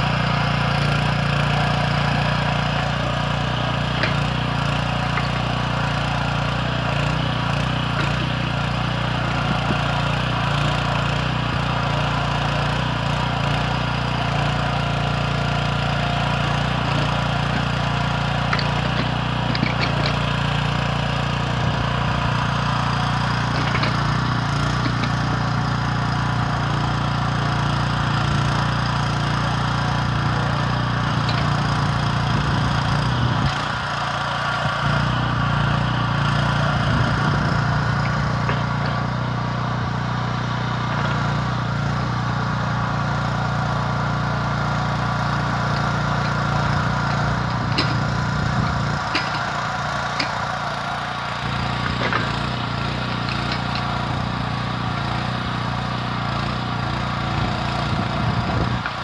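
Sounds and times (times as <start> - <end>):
petrol engine running: 0.0 - 59.0.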